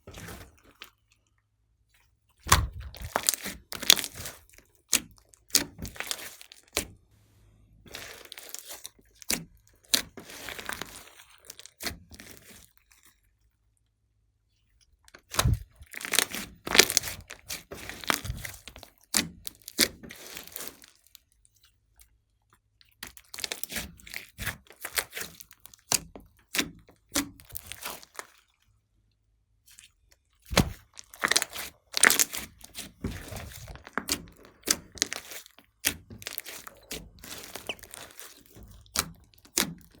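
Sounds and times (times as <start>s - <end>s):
slime squishing with clicks: 0.1s - 7.1s, 7.8s - 14.0s, 14.7s - 40.0s.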